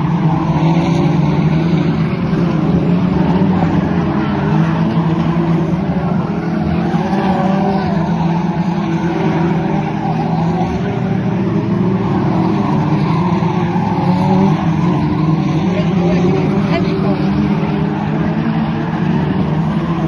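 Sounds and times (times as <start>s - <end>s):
race car engine running hard: 0.0s - 20.0s.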